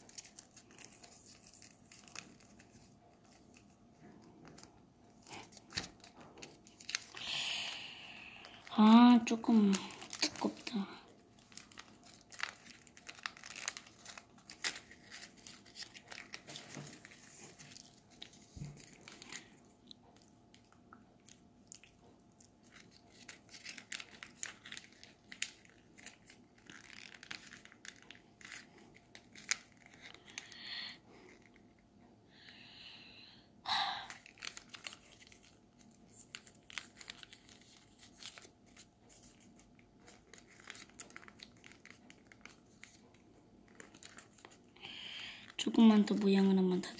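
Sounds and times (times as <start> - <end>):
paper rustling and crinkling: 0.0 - 7.3, 8.3 - 20.8, 21.8 - 30.6, 34.1 - 46.9.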